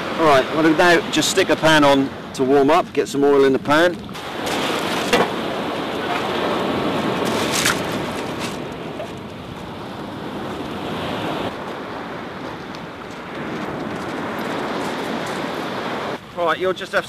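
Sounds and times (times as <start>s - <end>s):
surf washing on shingle: 0.0s - 17.0s.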